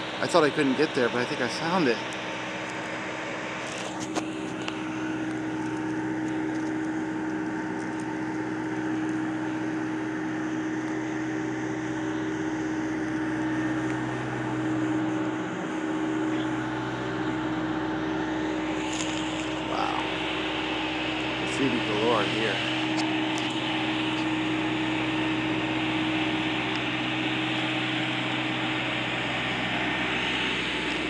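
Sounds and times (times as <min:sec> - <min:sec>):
mechanical drone with low hum: 0:00.0 - 0:31.0.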